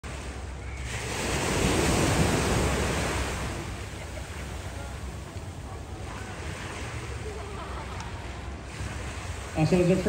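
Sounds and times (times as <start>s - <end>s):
surf rushing: 0.0s - 10.0s.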